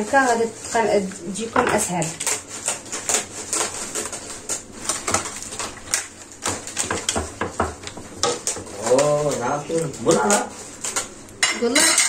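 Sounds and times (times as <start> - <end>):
pastry sheets clicking and crackling: 0.0 - 12.0.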